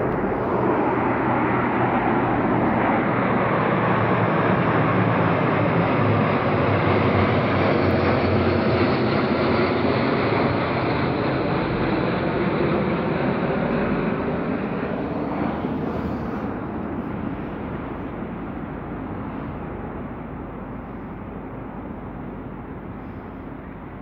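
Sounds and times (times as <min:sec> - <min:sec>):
aircraft engines droning: 0:00.0 - 0:24.0.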